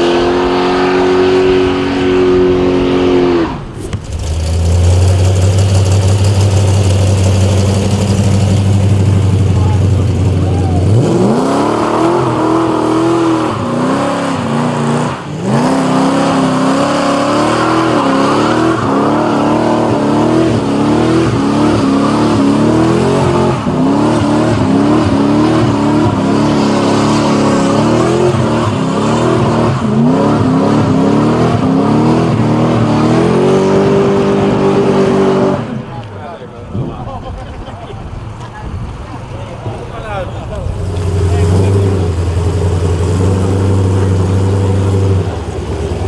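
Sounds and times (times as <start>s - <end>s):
car engine revving high: 0.0s - 36.1s, 40.5s - 46.0s.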